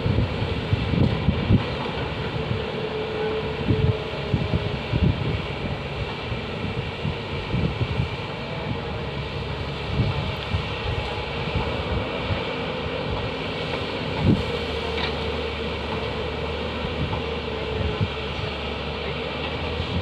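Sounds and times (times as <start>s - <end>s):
heavy diesel engines droning: 0.0s - 20.0s
wind buffeting microphone: 0.0s - 20.0s.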